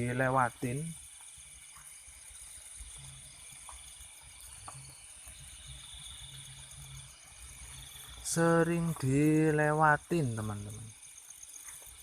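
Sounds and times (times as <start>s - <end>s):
crickets and insects trilling: 0.0s - 12.0s.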